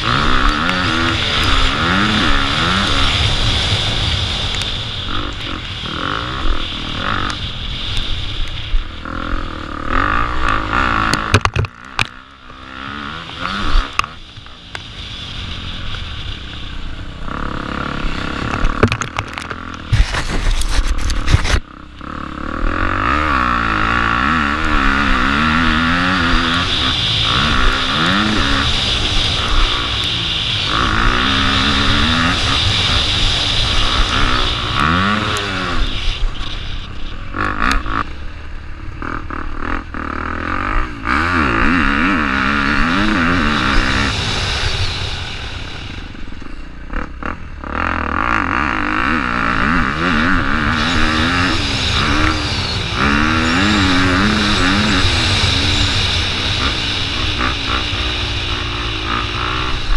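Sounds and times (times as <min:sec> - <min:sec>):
dirt bike engine revving: 0:00.0 - 0:59.9
rushing bursts of noise: 0:00.0 - 0:59.9.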